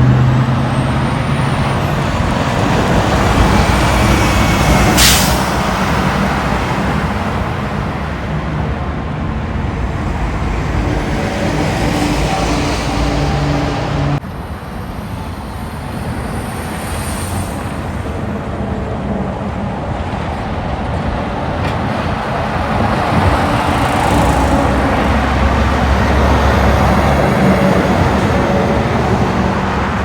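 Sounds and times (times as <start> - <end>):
diesel truck engine rumble: 0.0 - 30.0
road traffic: 0.0 - 30.0
truck tyre noise: 0.0 - 30.0.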